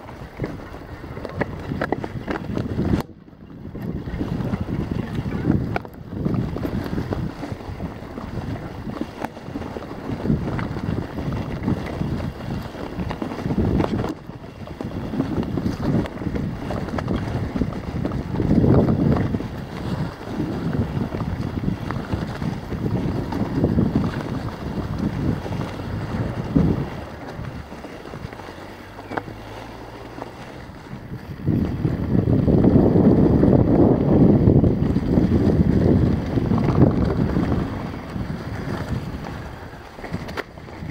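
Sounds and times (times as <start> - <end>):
bike tyres rumbling on dirt: 0.0 - 40.9
wind buffeting microphone: 0.0 - 40.9.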